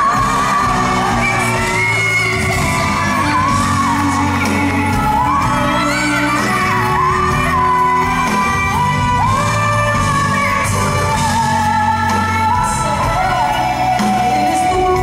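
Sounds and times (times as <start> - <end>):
musical accompaniment: 0.0 - 15.0
woman singing into microphone: 0.0 - 15.0.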